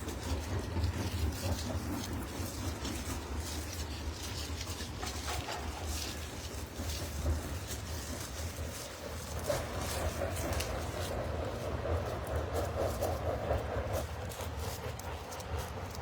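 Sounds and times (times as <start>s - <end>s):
industrial machinery hum: 0.0s - 16.0s.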